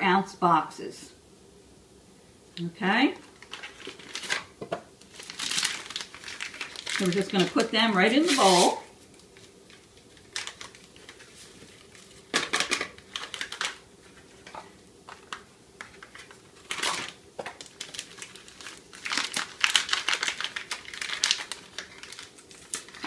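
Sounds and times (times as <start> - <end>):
packets crinkling: 3.2 - 23.0.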